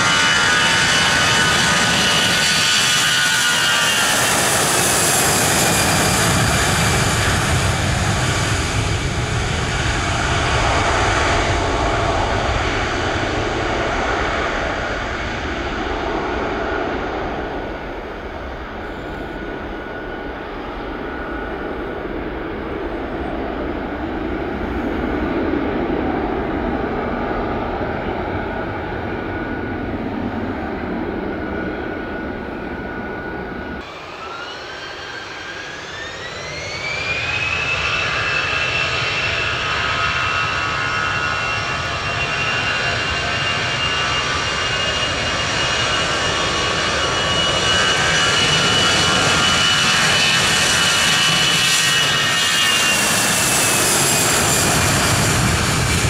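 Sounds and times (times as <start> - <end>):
airliner engines rushing hiss: 0.0 - 56.0
high engine whine: 0.0 - 56.0.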